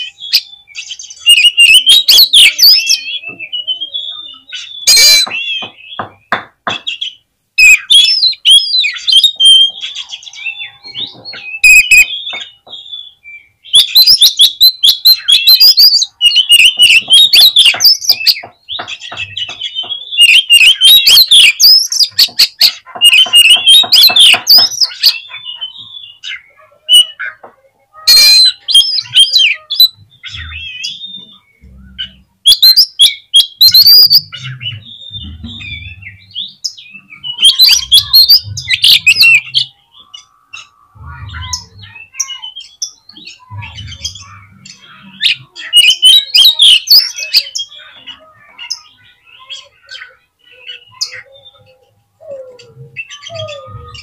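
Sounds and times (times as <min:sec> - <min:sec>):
bird singing whistles and chirps: 0:00.0 - 0:54.0.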